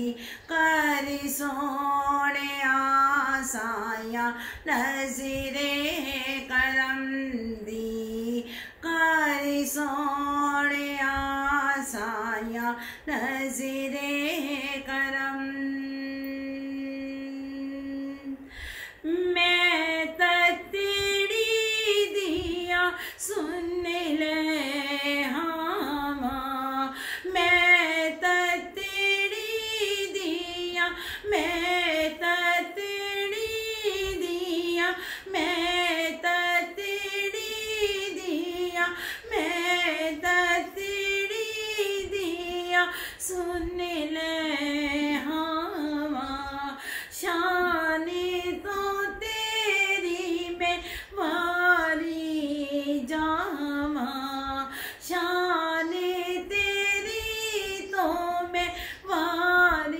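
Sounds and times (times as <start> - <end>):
woman singing unaccompanied: 0.0 - 59.9.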